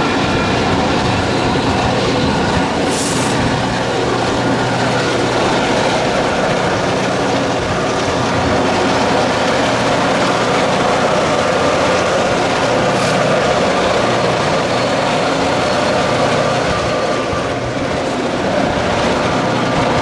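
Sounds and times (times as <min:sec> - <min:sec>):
car road noise: 0:00.0 - 0:20.0
diesel locomotive engine drone: 0:00.0 - 0:20.0.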